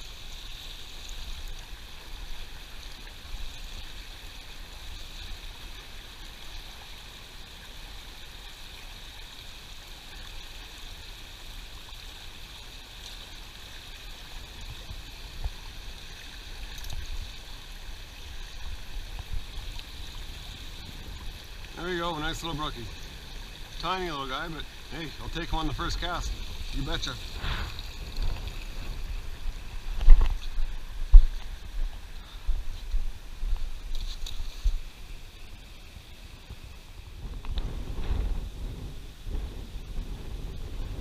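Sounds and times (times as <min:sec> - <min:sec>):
creek water rushing over rocks: 0:00.0 - 0:41.0.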